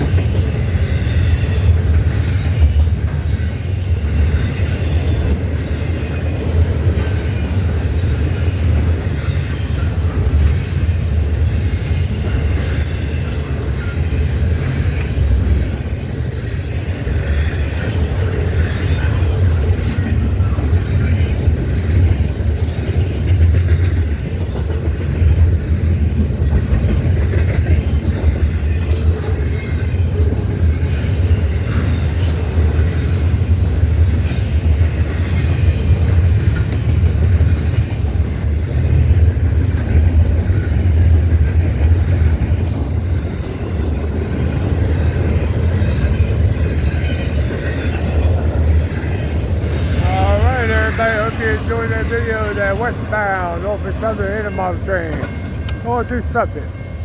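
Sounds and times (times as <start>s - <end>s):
freight train cars rumbling past: 0.0s - 57.0s.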